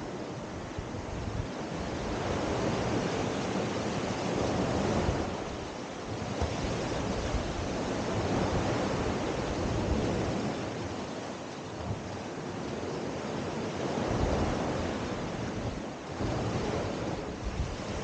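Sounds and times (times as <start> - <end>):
waves washing up a beach: 0.0 - 18.0.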